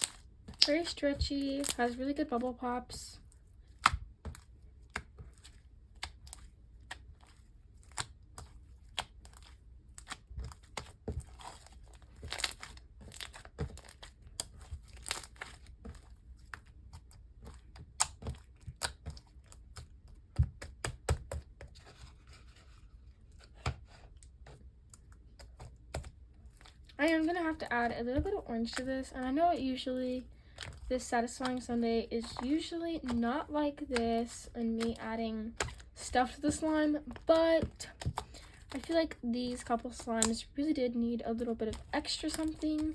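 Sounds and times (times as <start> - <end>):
slime stretching and pressing: 3.6 - 40.4.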